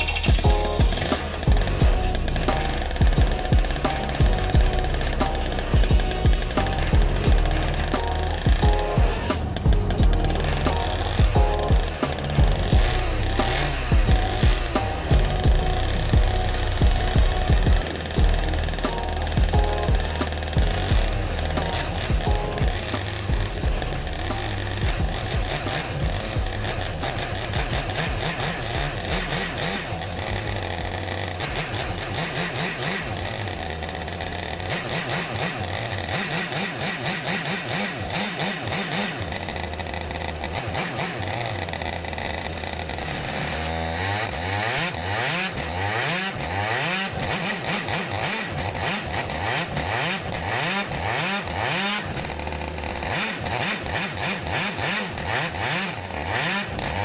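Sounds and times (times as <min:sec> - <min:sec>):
two-stroke kart engine revving: 0:00.0 - 0:57.0.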